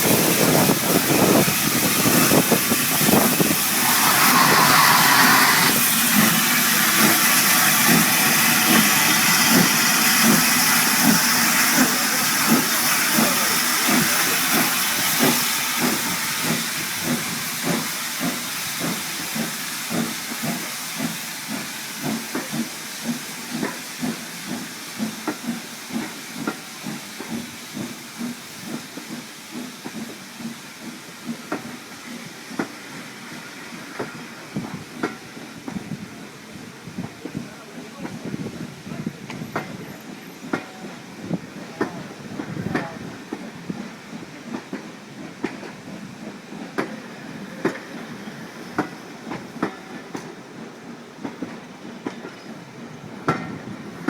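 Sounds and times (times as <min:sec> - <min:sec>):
steam locomotive hissing: 0:00.0 - 0:54.0
train wheels clicking over rail joints: 0:00.0 - 0:54.0.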